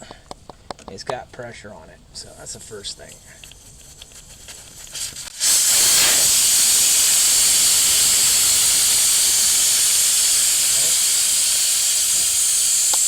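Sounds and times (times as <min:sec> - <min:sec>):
air hissing out of tire valve: 0:02.2 - 0:13.0.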